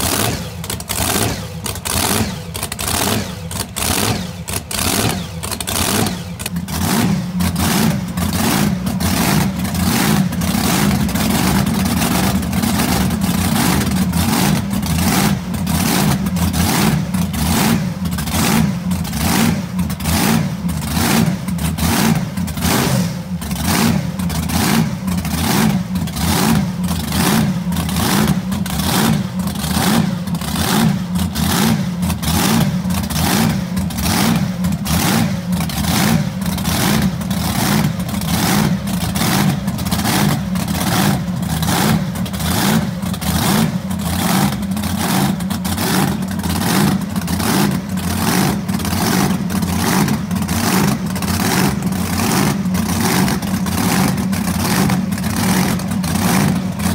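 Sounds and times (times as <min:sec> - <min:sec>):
engine with loping beat: 0:00.0 - 0:56.9.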